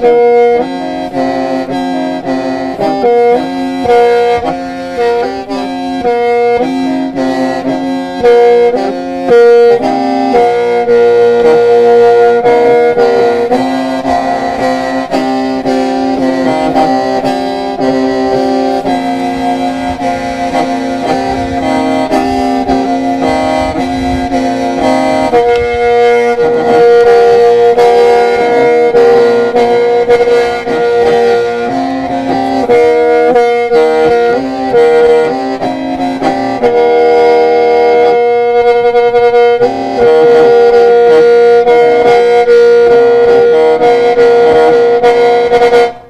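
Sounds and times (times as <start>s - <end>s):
bamboo mouth organ playing: 0.0s - 46.0s.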